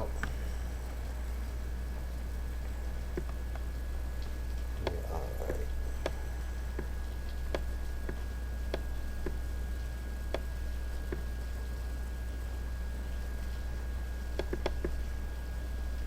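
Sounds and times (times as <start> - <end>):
faint high whine: 0.0 - 16.0
low electrical hum: 0.0 - 16.0.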